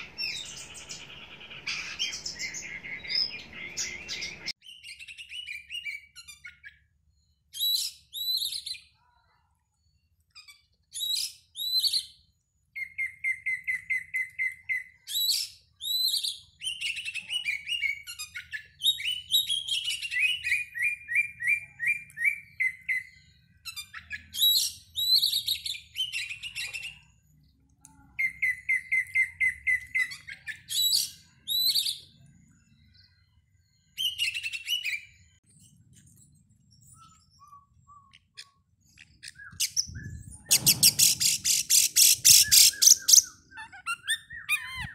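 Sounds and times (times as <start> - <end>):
songbird singing varied song: 0.0 - 9.0, 9.8 - 44.9.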